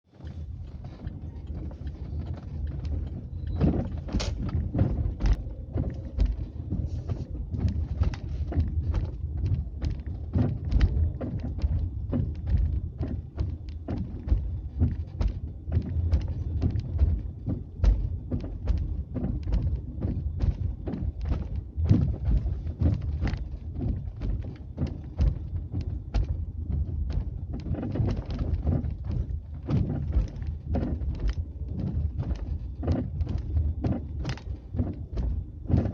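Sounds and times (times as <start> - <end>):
low rumble: 0.1 - 35.9
steering rack knocking: 0.8 - 35.9.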